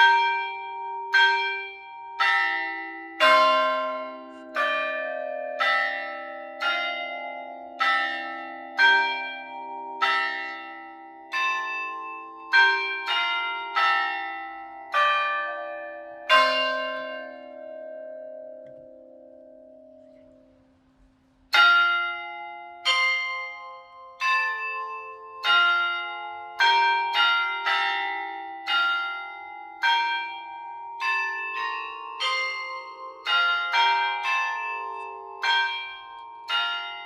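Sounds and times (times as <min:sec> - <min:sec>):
church bells playing a hymn: 0:00.0 - 0:37.0.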